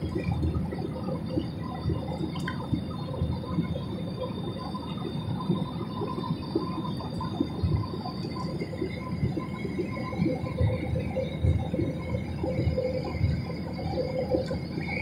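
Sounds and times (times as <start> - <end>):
faint steady whines: 0.0 - 15.0
jet engine cabin drone: 0.0 - 15.0.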